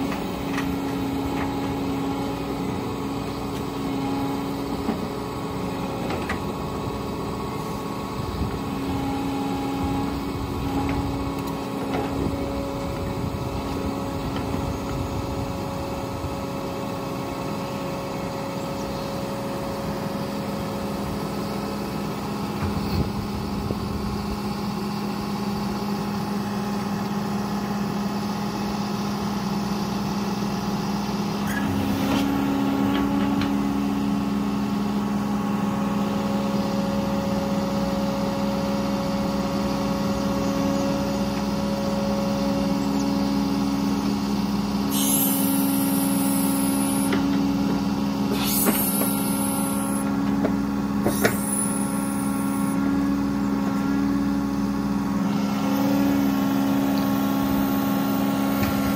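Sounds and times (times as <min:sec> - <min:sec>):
excavator diesel engine working: 0:00.0 - 0:58.9.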